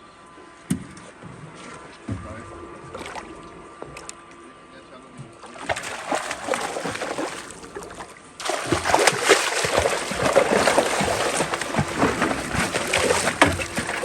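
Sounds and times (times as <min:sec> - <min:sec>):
water splashing and sloshing: 0:00.8 - 0:04.4, 0:05.2 - 0:14.0.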